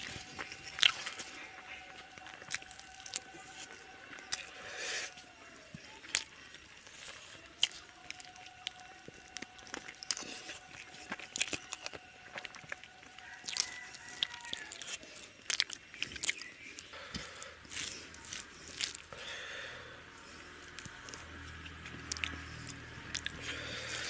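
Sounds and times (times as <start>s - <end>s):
chewing and lip smacks: 0.0s - 19.2s, 20.6s - 24.0s
fingers squishing rice: 0.0s - 24.0s.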